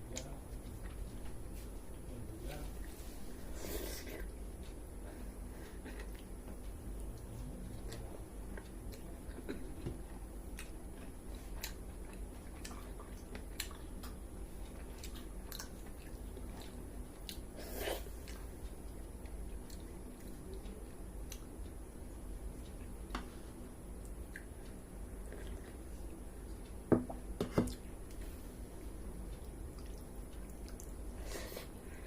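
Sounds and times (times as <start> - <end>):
person chewing food: 2.8 - 21.7, 24.0 - 28.4, 29.2 - 32.0.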